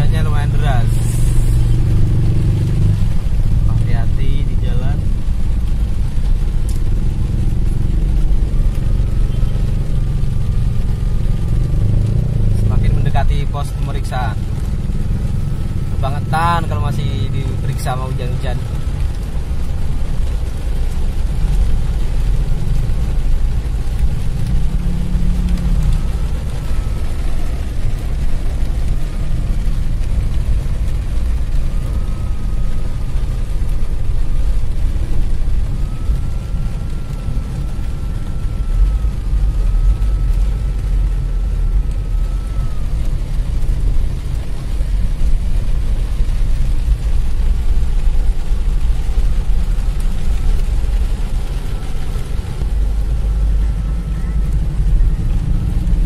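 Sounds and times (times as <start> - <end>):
heavy rain on car roof: 0.0 - 56.0
low rumble of engines: 0.0 - 56.0.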